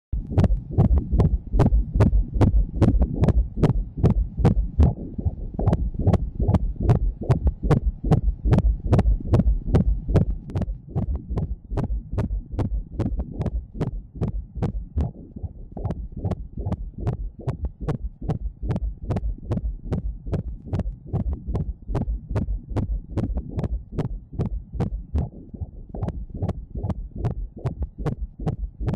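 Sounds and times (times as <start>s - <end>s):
fetal heartbeat on doppler ultrasound: 0.2s - 28.9s.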